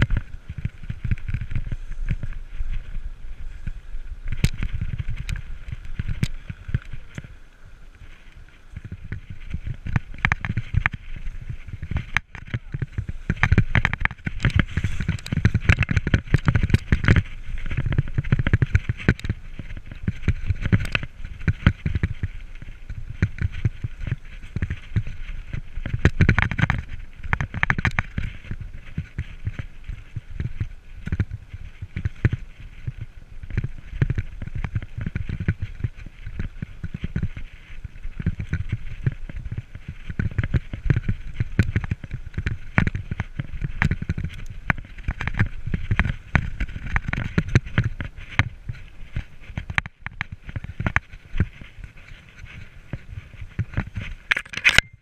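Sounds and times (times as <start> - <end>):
bike clattering over rough ground: 0.0 - 55.0
wind rumble on microphone: 0.0 - 55.0.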